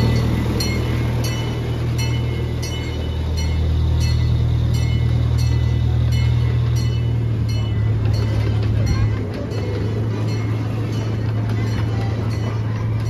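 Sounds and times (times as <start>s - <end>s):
locomotive droning: 0.0s - 13.0s
wheels clicking over rail joints: 0.0s - 13.0s.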